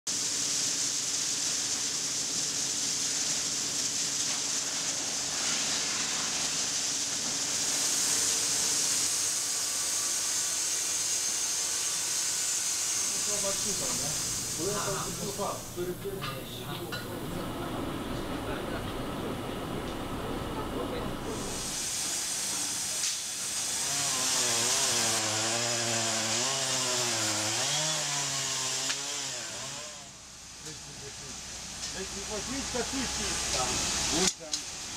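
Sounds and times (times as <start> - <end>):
sawmill machinery hiss: 0.1 - 18.8, 21.2 - 34.9.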